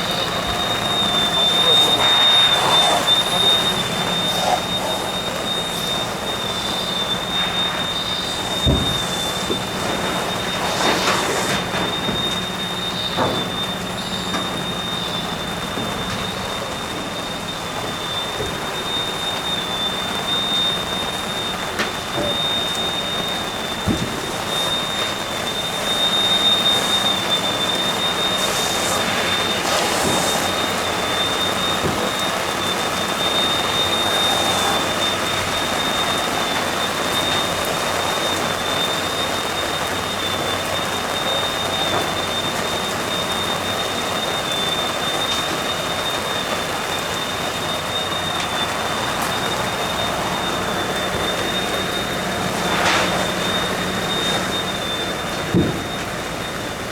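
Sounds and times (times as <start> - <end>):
fire and hose water rushing: 0.0 - 56.9
high-pitched whine: 0.0 - 56.9.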